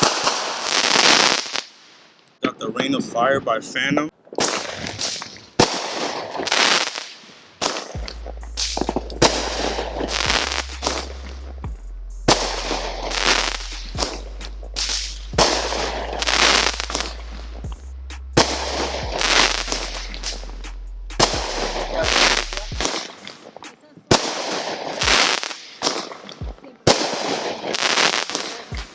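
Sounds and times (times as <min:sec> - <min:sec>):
firework shots with crackling bursts: 0:00.0 - 0:02.4, 0:04.3 - 0:28.9.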